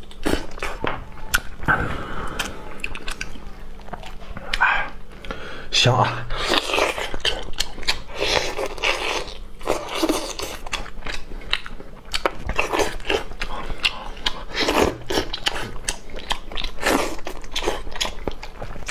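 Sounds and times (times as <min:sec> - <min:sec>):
person chewing and crunching: 0:00.0 - 0:05.4, 0:06.3 - 0:18.9.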